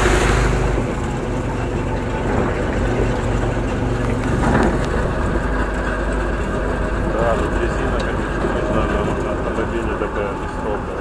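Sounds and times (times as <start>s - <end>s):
tires on gravel: 0.0s - 11.0s
truck engine running: 0.0s - 11.0s
wind noise on microphone: 0.0s - 11.0s.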